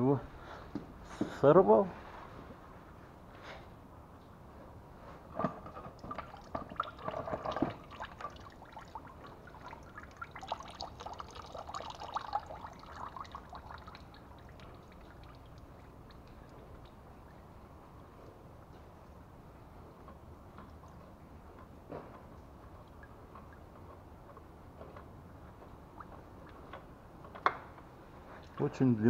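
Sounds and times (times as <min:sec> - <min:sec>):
oil trickling and dripping: 0:05.2 - 0:29.0.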